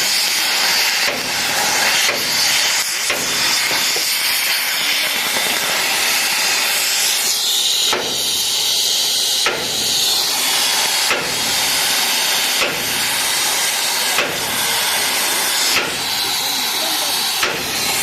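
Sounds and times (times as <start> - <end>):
loud steady hiss: 0.0 - 18.0.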